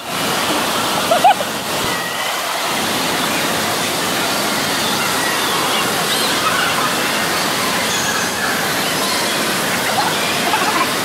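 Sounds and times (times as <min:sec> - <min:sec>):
rushing water: 0:00.0 - 0:11.0
distant children shouting: 0:00.4 - 0:11.0.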